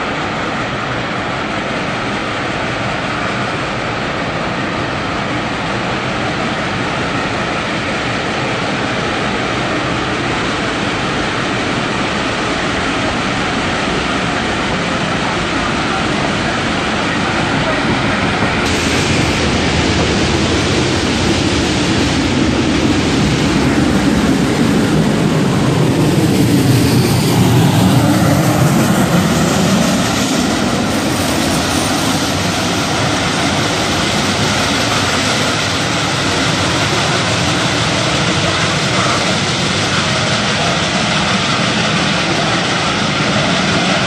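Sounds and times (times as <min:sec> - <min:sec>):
steam locomotive working hard: 0:00.0 - 0:44.0.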